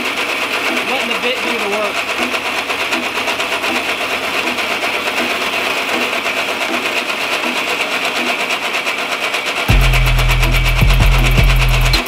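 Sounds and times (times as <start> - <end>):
hole saw cutting steel tube: 0.0 - 12.0.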